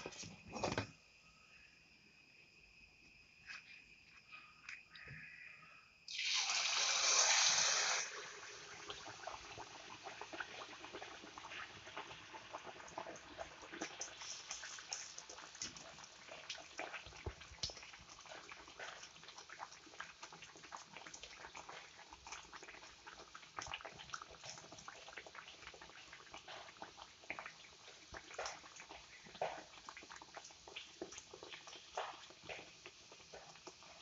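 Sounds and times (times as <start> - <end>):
food deep-frying in oil: 6.1 - 34.0.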